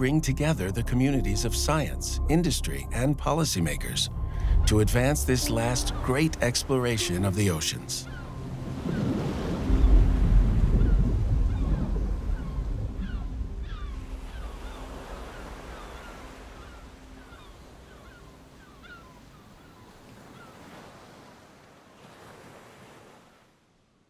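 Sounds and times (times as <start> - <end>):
ocean waves washing: 0.0 - 23.5.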